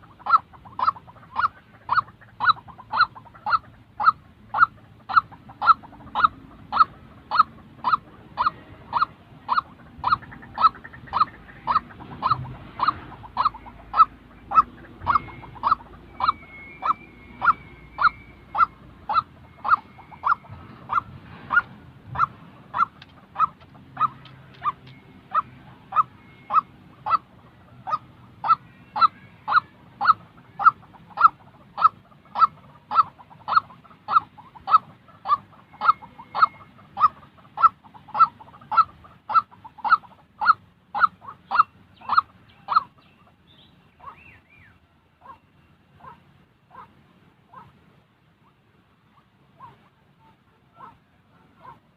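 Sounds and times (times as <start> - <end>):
faint bird twittering: 0.0 - 47.8
waterhen calling: 0.0 - 51.9.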